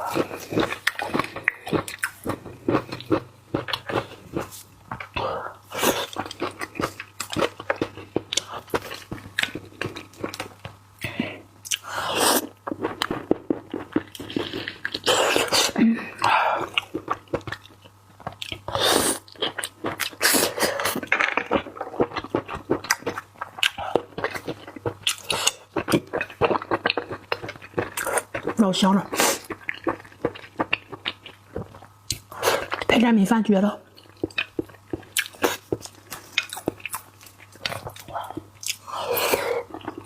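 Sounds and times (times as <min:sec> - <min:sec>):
person chewing food: 0:00.0 - 0:32.9, 0:33.9 - 0:40.0
low electrical hum: 0:00.0 - 0:40.0.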